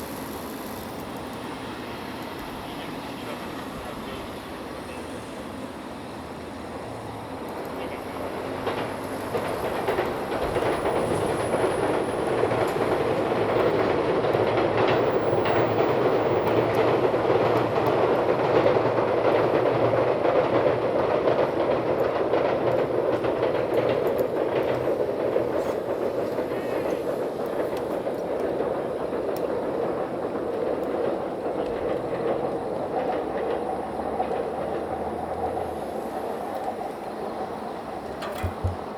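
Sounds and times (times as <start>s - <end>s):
train wheels clacking over rail joints: 7.5s - 38.9s.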